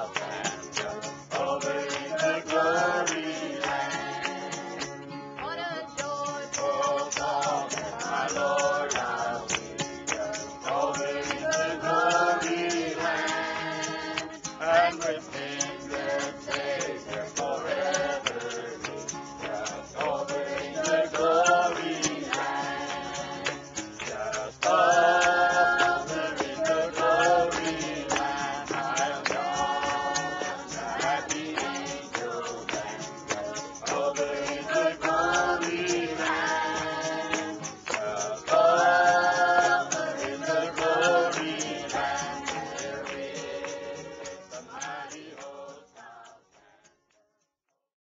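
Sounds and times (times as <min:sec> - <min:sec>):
congregation singing a hymn: 0:00.0 - 0:46.8.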